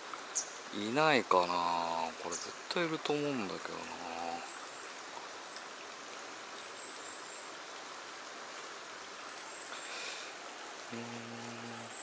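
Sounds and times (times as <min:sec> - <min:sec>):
running water hiss: 0:00.0 - 0:12.0.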